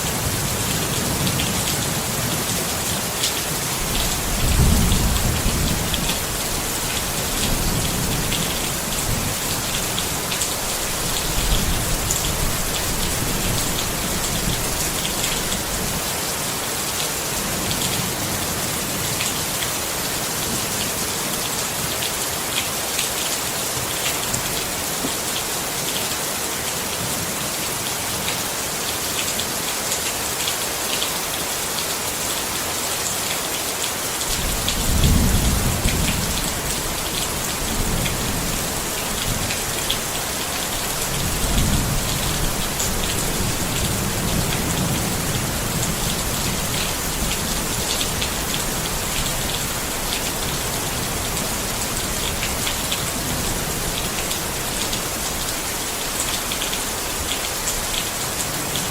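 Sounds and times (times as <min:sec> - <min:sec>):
rain pattering on a tent: 0:00.0 - 0:58.9.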